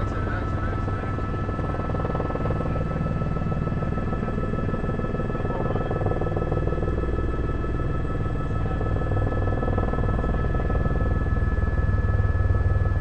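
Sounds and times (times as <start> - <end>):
helicopter rotor drone: 0.0 - 13.0.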